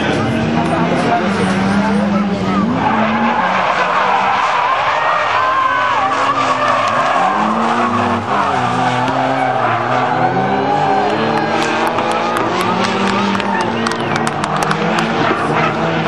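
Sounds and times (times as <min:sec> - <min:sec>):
car engines revving: 0:00.0 - 0:16.0
tyres squealing: 0:02.6 - 0:15.8.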